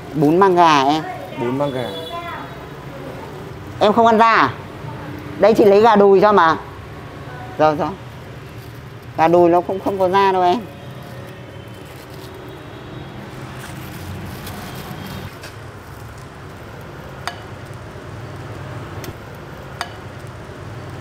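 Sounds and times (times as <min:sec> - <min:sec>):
broth pots simmering: 0:00.0 - 0:21.0.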